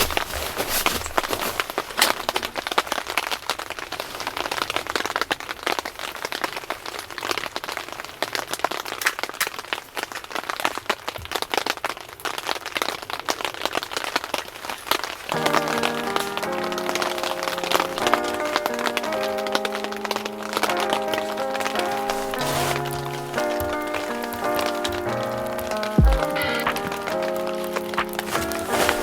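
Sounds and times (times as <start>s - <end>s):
rain falling on tent fabric: 0.0s - 29.0s.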